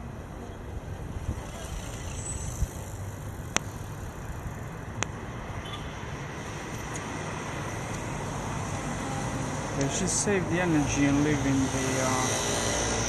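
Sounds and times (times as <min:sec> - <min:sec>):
bicycle road and wind noise: 0:00.0 - 0:13.0.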